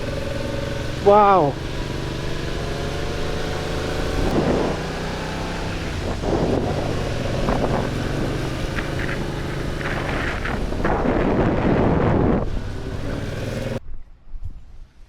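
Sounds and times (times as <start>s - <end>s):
motorcycle engine running: 0.0s - 13.8s
wind buffeting microphone: 0.0s - 15.0s.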